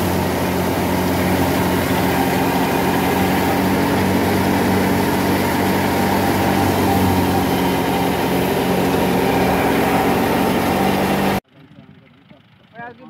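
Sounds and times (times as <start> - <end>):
thresher mechanical drone: 0.0 - 11.4.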